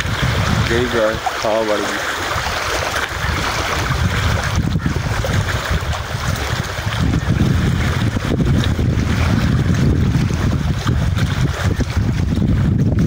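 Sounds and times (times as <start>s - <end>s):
small waves lapping on rocks: 0.0s - 12.5s
wind buffeting microphone: 0.0s - 13.0s.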